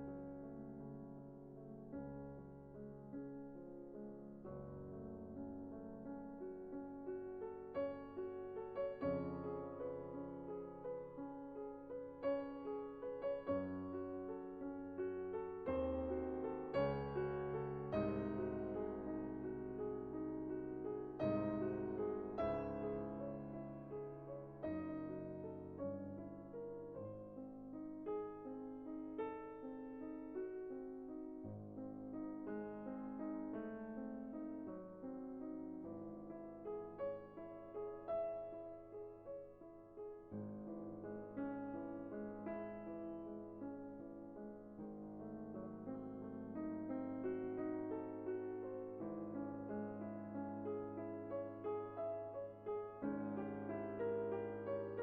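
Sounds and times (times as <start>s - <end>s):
slow gentle piano music: 0.0s - 55.0s.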